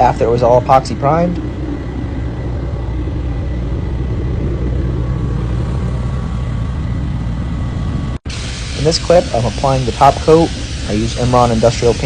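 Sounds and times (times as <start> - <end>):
faint steady whine: 0.0 - 12.0
machinery rumbling: 0.0 - 12.0.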